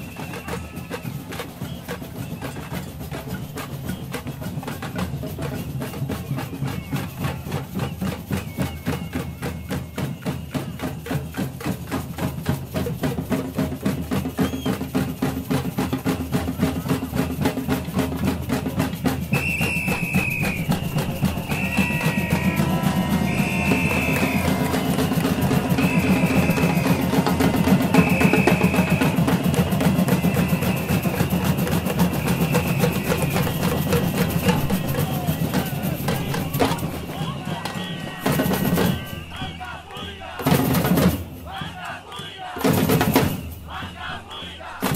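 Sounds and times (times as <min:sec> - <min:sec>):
samba percussion band: 0:00.0 - 0:44.9
samba whistle blasts: 0:00.0 - 0:44.9.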